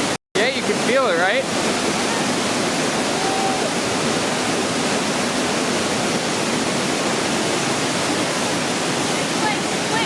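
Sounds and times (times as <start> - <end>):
waterfall rushing: 0.4 - 10.0.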